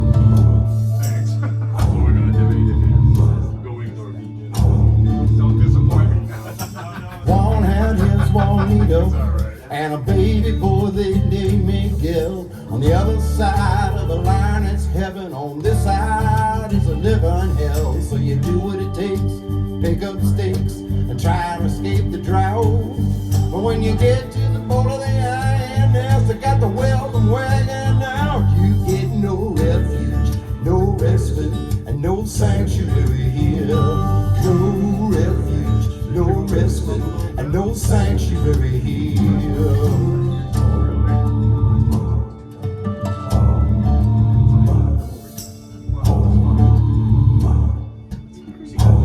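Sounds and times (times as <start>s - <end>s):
deep bass line: 0.0s - 49.0s
guitar: 0.0s - 49.0s
sliding melody: 0.0s - 49.0s
song over hi-fi loudspeakers: 0.0s - 49.0s.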